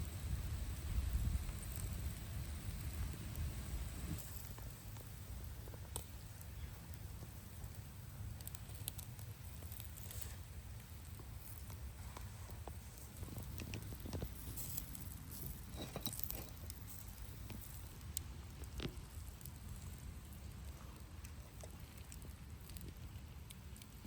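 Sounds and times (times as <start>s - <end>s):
campfire crackling and popping: 0.0s - 24.0s
low steady rumble: 0.0s - 24.0s.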